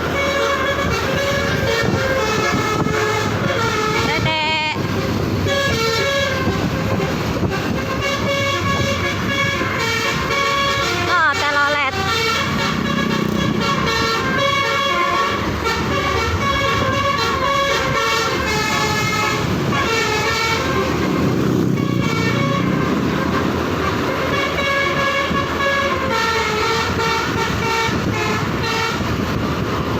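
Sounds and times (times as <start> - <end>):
bus engine running: 0.0 - 29.9
multi-tone musical bus horn: 0.0 - 29.9.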